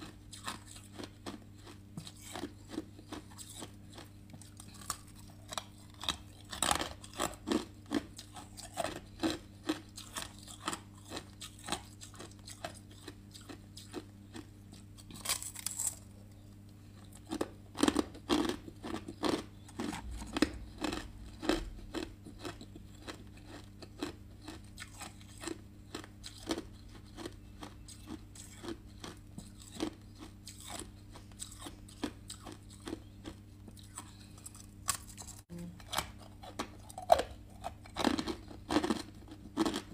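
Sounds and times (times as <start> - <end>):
ice being chewed: 0.0 - 16.1, 16.8 - 39.9
low steady hum: 0.0 - 39.9.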